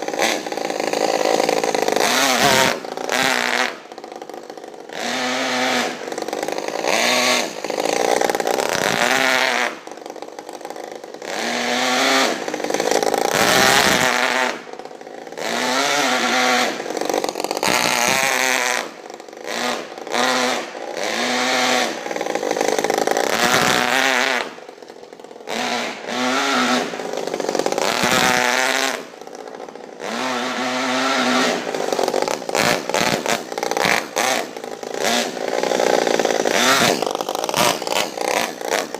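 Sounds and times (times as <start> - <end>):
model engine revving: 0.0 - 38.9.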